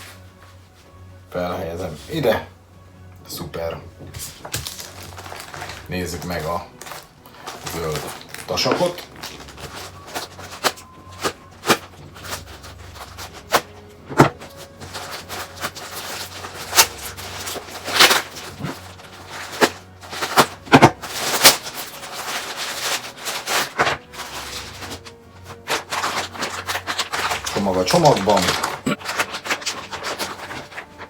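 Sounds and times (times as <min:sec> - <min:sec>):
packaging crinkling and rustling: 0:00.0 - 0:00.7, 0:04.0 - 0:31.0
sharp snaps and crackles: 0:04.1 - 0:31.0.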